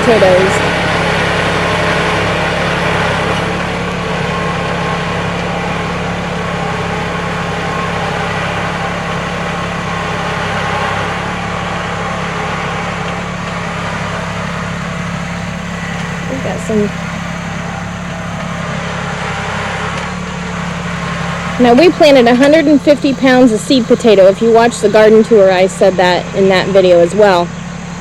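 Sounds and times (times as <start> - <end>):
tractor diesel engine idling: 0.0 - 28.0.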